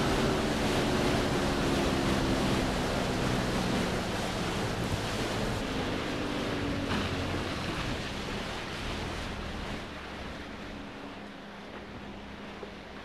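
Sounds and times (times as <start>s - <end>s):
waves lapping against boat hull: 0.0s - 13.0s.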